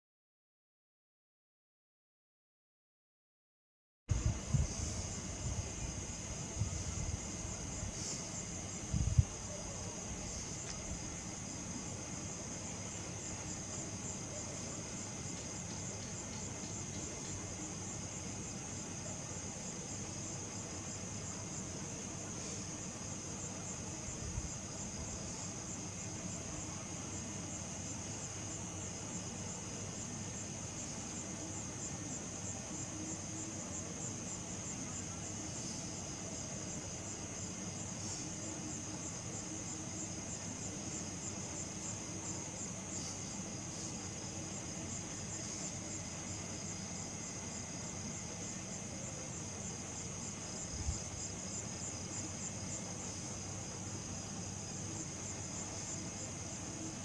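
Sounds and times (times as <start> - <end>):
crickets trilling: 4.1 - 57.0.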